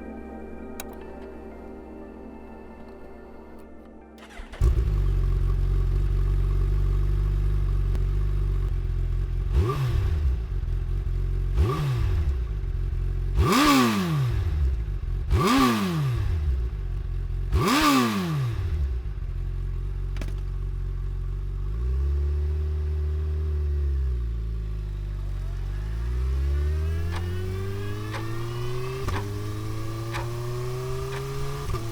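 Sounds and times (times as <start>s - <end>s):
motorcycle engine revving: 4.2s - 31.9s.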